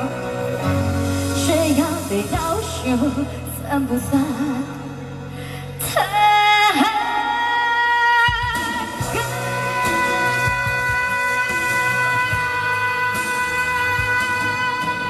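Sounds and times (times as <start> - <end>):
pop song with long held note: 0.0 - 15.0.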